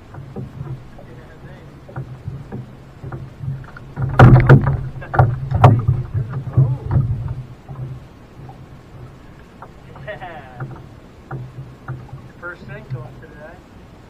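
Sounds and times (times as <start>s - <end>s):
fish thrashing and splashing: 0.0s - 12.5s
steady low hum: 0.0s - 14.0s.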